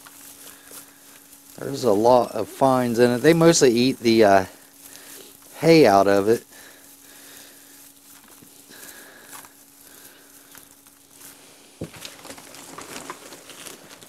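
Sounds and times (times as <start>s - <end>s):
faint steady hum: 0.0s - 14.0s
hay rustling and crackling: 0.0s - 14.0s.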